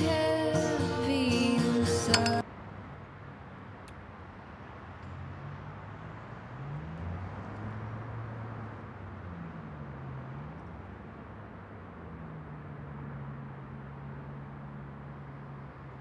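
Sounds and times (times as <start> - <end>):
distant traffic hum: 0.0 - 16.0
vehicle engines passing: 0.0 - 16.0.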